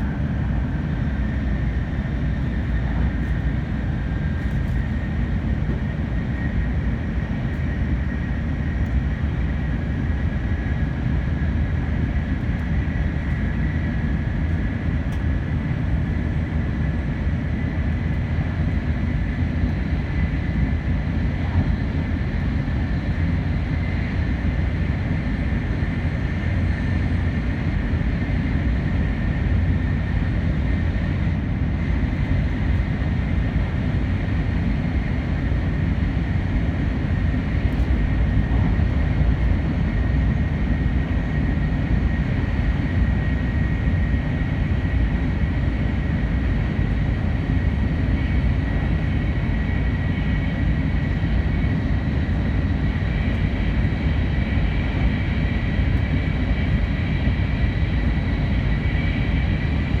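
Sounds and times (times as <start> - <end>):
train cabin low rumble: 0.0 - 60.0.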